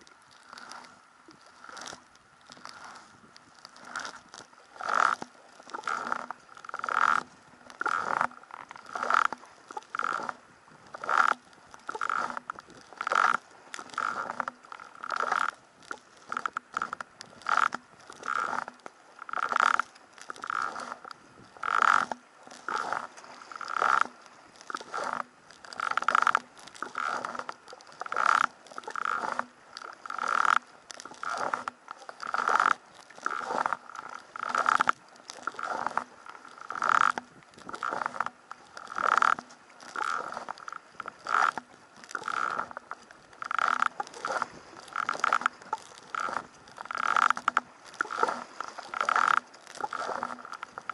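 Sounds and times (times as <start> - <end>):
kayak paddle splashing: 0.0 - 50.9.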